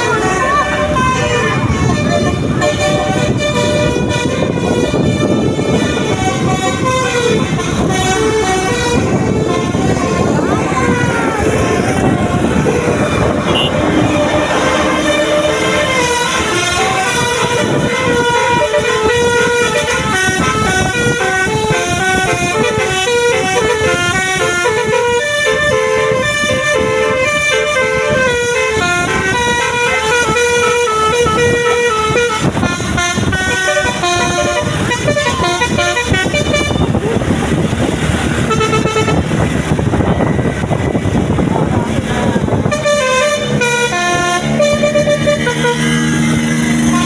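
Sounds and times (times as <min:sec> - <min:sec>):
musical vehicle horn playing a tune: 0:00.0 - 0:37.2, 0:38.3 - 0:41.3, 0:42.4 - 0:47.0
traffic and engine noise: 0:00.0 - 0:47.0.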